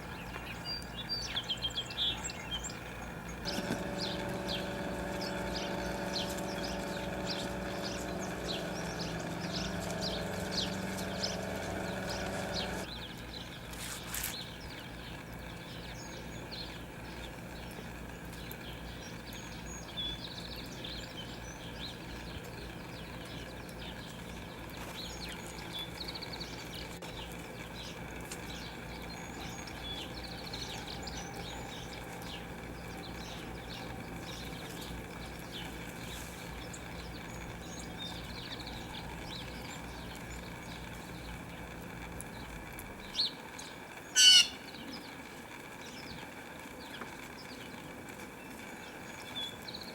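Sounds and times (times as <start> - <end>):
small songbirds chirping: 0.0 - 49.9
steady mechanical hum: 0.0 - 49.9.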